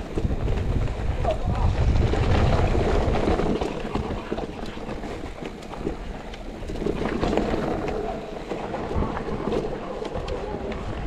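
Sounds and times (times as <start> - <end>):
bike clicking and rattling: 0.0 - 11.0
tyres rolling over dirt and stones: 0.0 - 11.0
wind buffeting microphone: 0.0 - 11.0.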